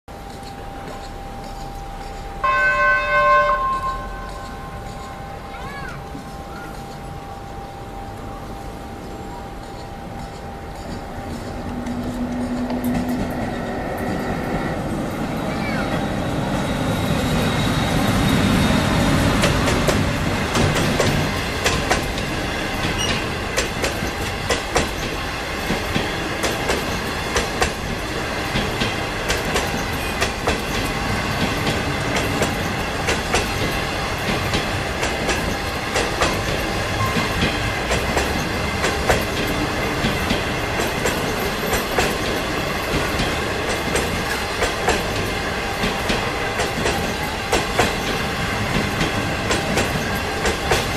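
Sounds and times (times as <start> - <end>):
train rumbling past: 0.1 - 50.9
wheels clacking over rails: 9.6 - 50.9.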